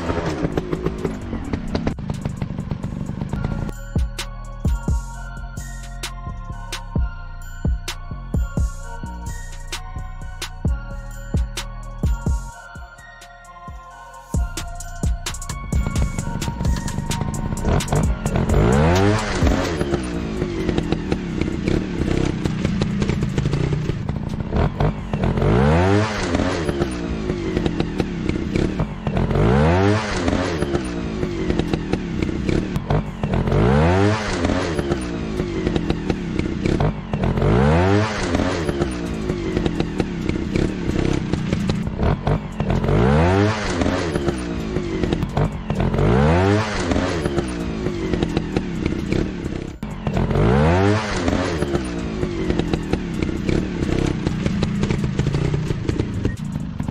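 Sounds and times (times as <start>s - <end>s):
engine clattering: 0.0s - 5.0s, 14.4s - 56.9s
motorcycle engine revving: 0.0s - 5.1s, 14.4s - 56.9s.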